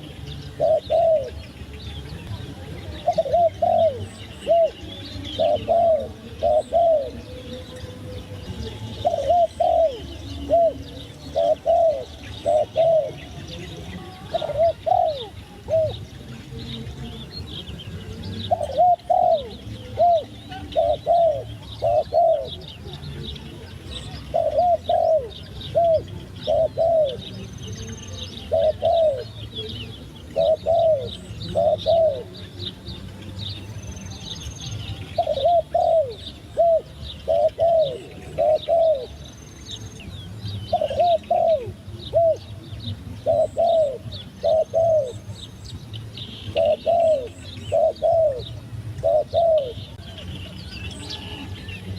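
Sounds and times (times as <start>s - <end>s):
dove cooing: 0.0s - 1.6s, 2.2s - 32.9s, 35.0s - 45.5s, 46.5s - 50.2s
small birds chirping: 0.0s - 51.9s.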